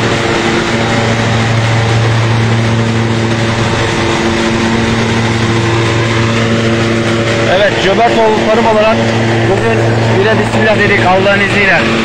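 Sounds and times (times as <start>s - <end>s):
broad rushing noise: 0.0s - 12.0s
thresher machine drone: 0.0s - 12.0s.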